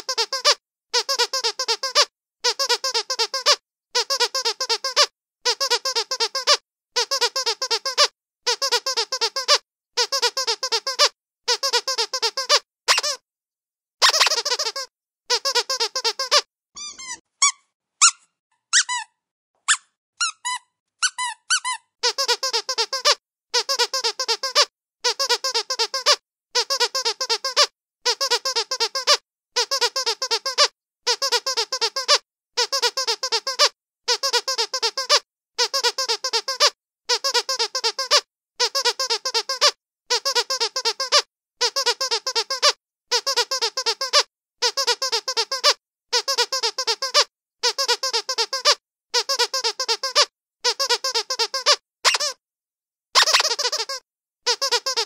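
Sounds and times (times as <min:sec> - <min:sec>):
squeaky dog toy squeaking: 0:00.0 - 0:13.2, 0:14.0 - 0:52.4, 0:53.2 - 0:55.0.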